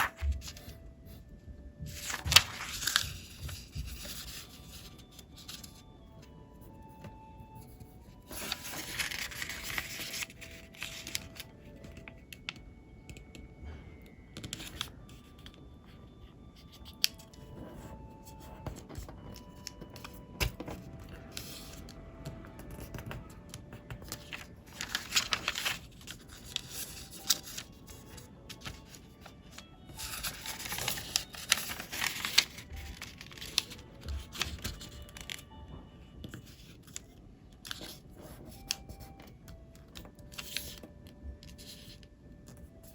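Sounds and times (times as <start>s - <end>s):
paper rustling and crinkling: 0.0s - 0.8s, 1.9s - 5.9s, 7.6s - 12.3s, 14.4s - 15.6s, 16.6s - 35.5s, 36.2s - 42.9s
faint background music: 0.0s - 42.9s.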